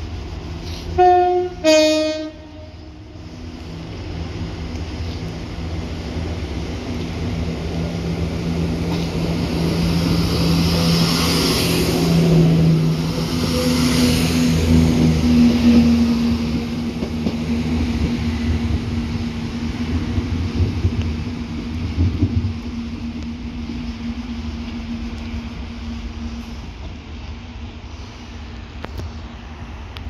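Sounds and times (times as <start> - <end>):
diesel locomotive engine: 0.0 - 30.0
wheel and rail noise: 0.0 - 30.0.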